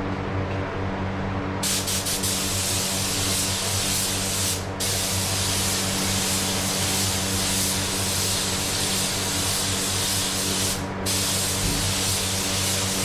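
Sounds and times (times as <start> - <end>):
paint spray gun hissing: 1.6 - 13.0.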